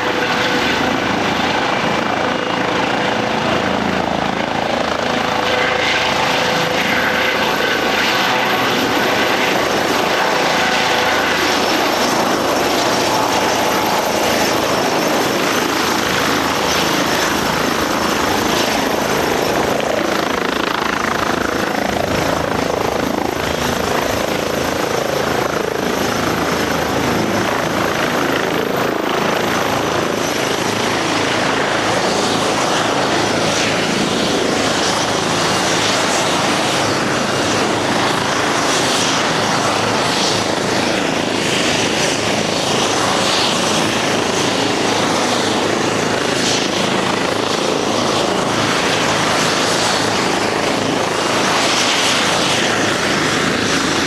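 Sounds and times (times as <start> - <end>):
helicopter rotor noise: 0.0 - 54.0
high turbine whine: 0.0 - 54.0.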